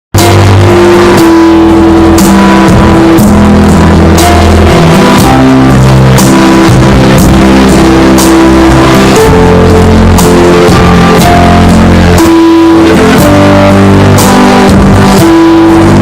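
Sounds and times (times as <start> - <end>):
bass line: 0.1 - 16.0
guitar chords: 0.2 - 16.0.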